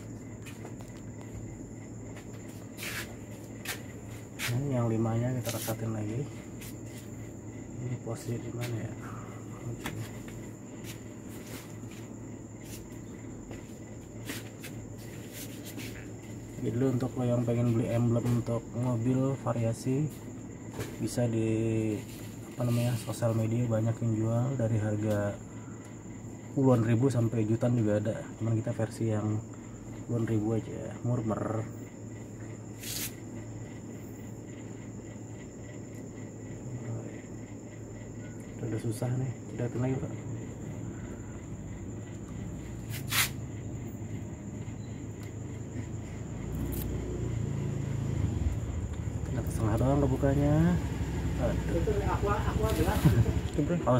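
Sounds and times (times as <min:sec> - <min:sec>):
constant low hum: 0:00.0 - 0:53.9
crickets trilling: 0:00.0 - 0:53.9.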